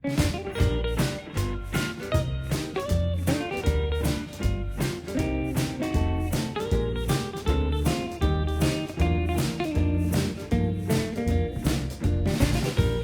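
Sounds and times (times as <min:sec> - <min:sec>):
plucked guitar music with beat: 0:00.0 - 0:13.0.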